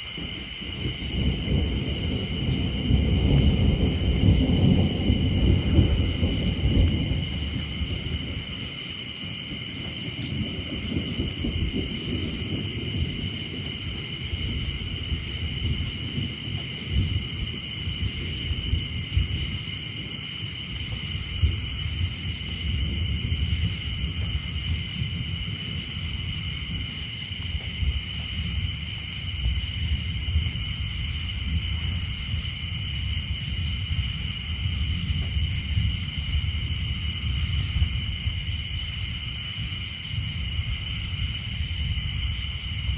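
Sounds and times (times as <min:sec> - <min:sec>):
distant thunder rumbling: 0:00.0 - 0:42.9
rain dripping: 0:00.0 - 0:42.9
tree frogs chorus: 0:00.0 - 0:42.9.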